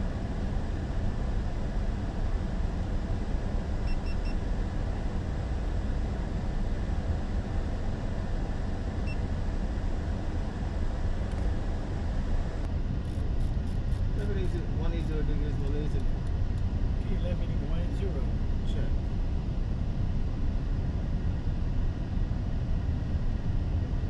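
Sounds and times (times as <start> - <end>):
low rumble of aircraft cockpit: 0.0 - 24.0.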